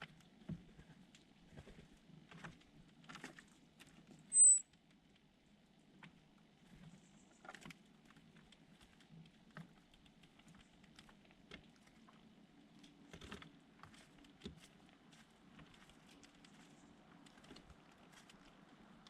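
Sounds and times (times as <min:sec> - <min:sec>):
small birds pecking and hopping: 0:00.0 - 0:19.0.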